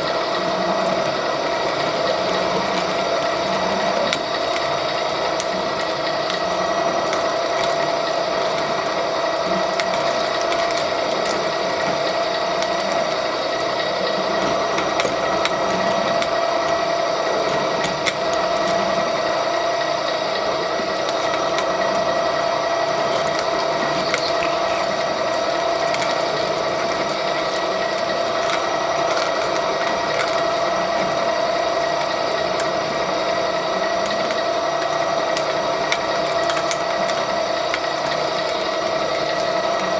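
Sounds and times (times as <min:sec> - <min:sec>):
pipe threading machine whining: 0:00.0 - 0:39.9.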